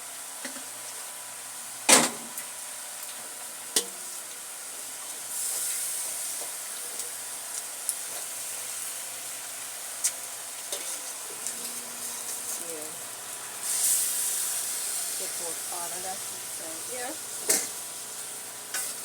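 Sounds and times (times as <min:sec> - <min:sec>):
curry sizzling in a pot: 0:00.0 - 0:19.0.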